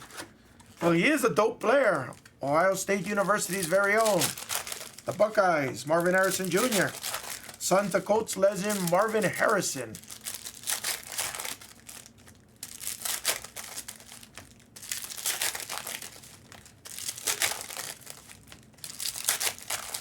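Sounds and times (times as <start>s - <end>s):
plastic wrappers crinkling: 0.1s - 20.0s.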